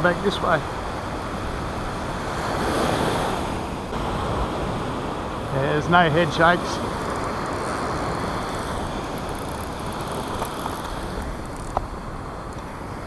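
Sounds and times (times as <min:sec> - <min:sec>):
surf washing on beach: 0:00.0 - 0:13.0
wind: 0:00.0 - 0:13.0.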